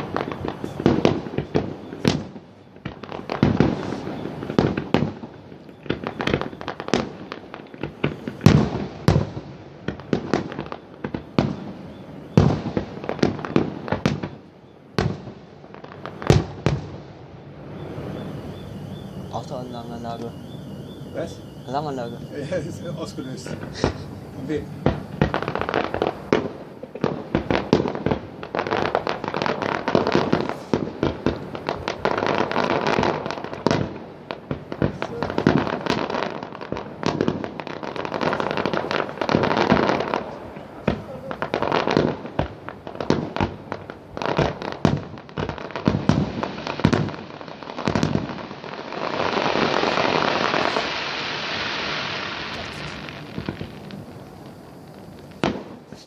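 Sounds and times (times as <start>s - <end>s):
dense crackling hiss: 0.0s - 56.0s
fireworks bangs and crackles: 0.0s - 56.0s.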